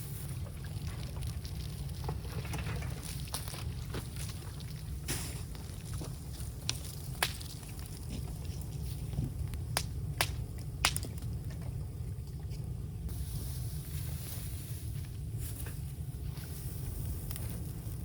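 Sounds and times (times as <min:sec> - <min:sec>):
bamboo cracking and popping in fire: 0:00.0 - 0:12.8, 0:14.7 - 0:18.0
low fire rumble: 0:00.0 - 0:18.0.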